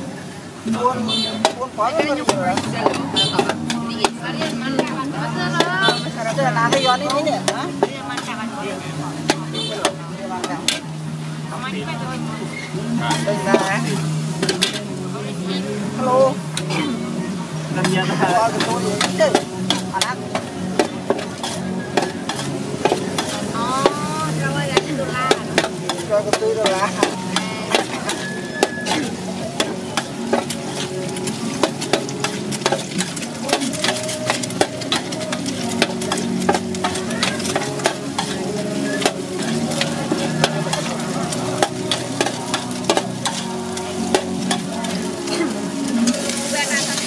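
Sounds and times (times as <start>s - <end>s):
food sizzling in a pan: 0.0s - 47.0s
metal spatula scraping a pan: 1.4s - 8.4s, 12.4s - 15.0s, 17.8s - 47.0s.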